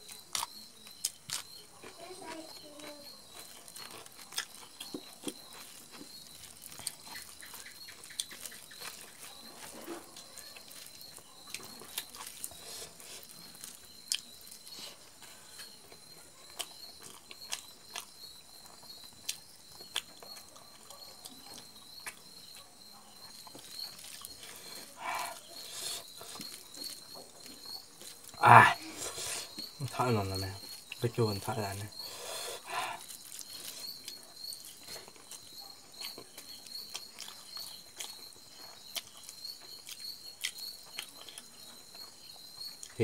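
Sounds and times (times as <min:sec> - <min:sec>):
wet chewing and mouth smacks: 0:00.0 - 0:29.8, 0:31.9 - 0:43.0.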